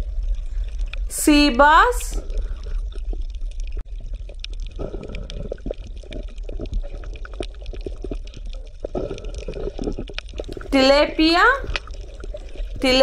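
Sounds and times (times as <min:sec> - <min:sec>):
water bubbling and gurgling: 0:00.0 - 0:13.0.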